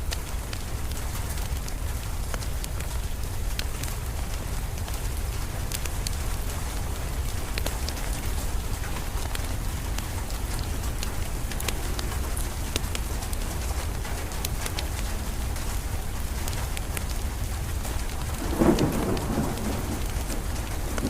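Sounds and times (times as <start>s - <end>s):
steady rain: 0.0s - 21.0s
wood fire crackling and popping: 0.1s - 21.0s.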